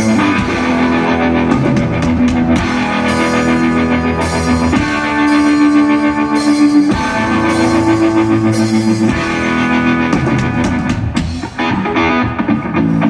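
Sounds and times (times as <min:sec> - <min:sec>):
drum and cymbal hits: 0:00.0 - 0:11.8
drum kit: 0:00.0 - 0:13.0
electric guitar chords: 0:00.0 - 0:13.0.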